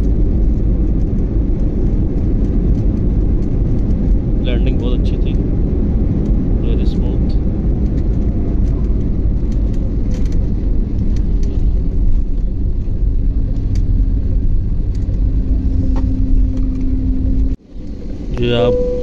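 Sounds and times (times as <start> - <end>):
jet engines and wheels rumbling: 0.0 - 19.0
steady hum: 0.0 - 19.0.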